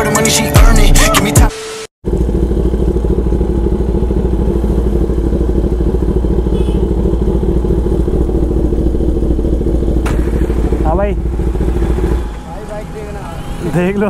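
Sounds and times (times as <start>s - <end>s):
motorcycle engine idling: 2.0s - 14.0s.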